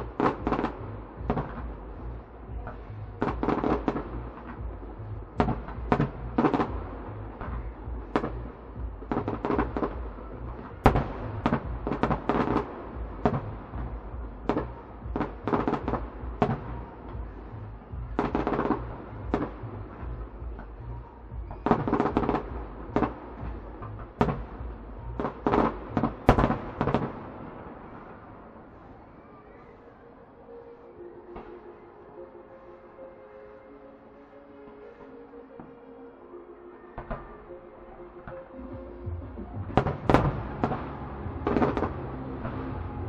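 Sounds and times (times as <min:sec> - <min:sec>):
fireworks bangs and crackles: 0:00.0 - 0:31.8, 0:38.2 - 0:43.0.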